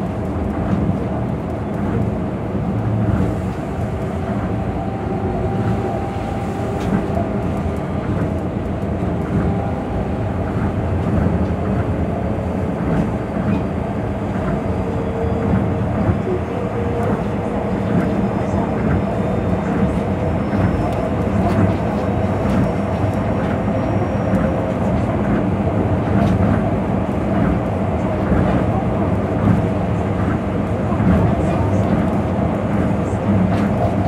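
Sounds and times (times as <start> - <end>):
train running inside car: 0.0 - 34.0.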